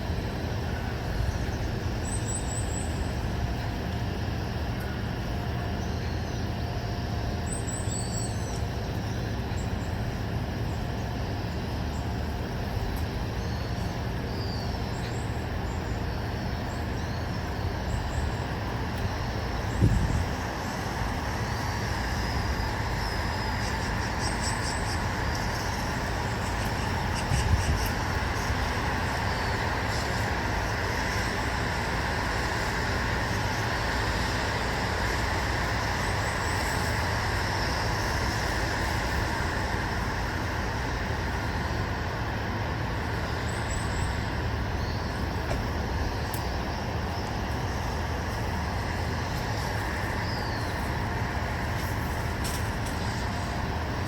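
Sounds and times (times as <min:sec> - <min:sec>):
distant road traffic rumble: 0:00.0 - 0:54.0.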